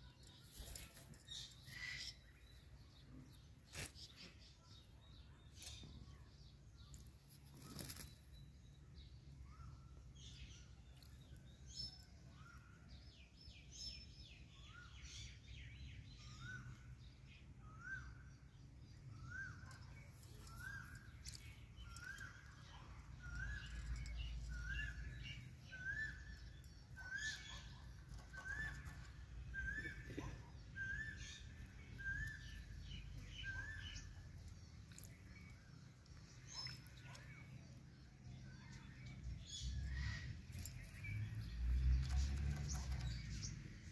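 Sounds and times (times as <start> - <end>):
bird chirping: 0.0 - 43.9.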